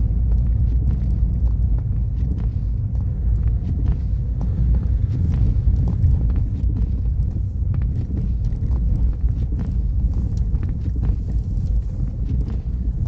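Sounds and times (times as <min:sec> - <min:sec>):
car tyres and engine rumbling: 0:00.0 - 0:13.0
irregular ticks and clicks: 0:00.1 - 0:13.0.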